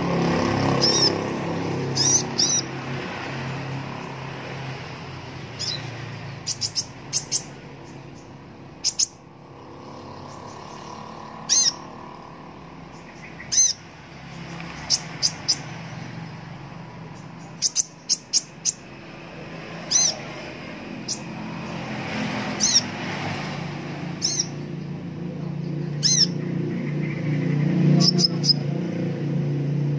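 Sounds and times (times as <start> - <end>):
bird chirping: 0.1 - 28.9.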